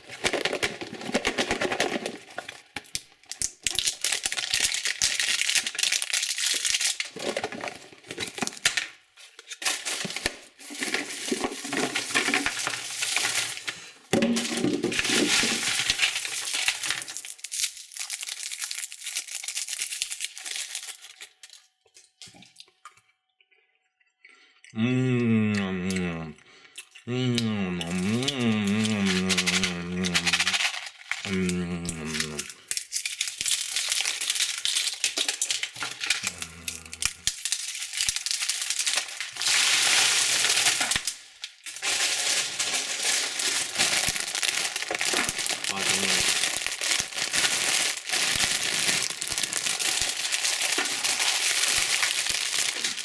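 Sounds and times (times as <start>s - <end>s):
candy wrappers crinkling and tearing: 0.0s - 22.8s, 27.8s - 53.0s.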